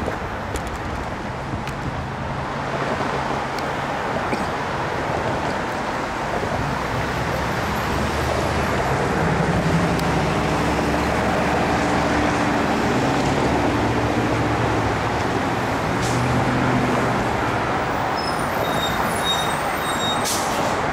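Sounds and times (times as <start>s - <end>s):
vehicle engine hum: 0.0s - 18.6s
road traffic rumble: 0.0s - 20.9s.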